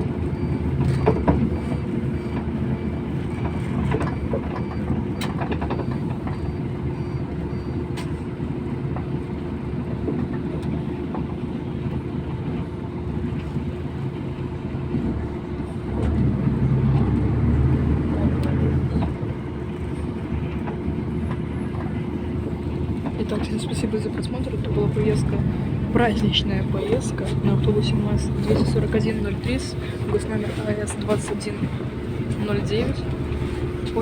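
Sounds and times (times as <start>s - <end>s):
bus engine and road rumble: 0.0s - 34.0s.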